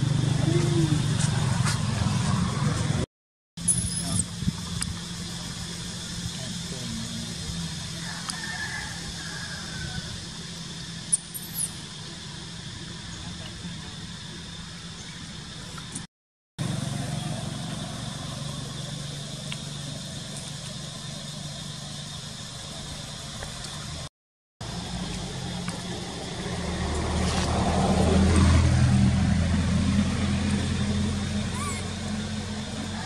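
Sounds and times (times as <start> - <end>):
low engine hum: 0.0 - 33.0.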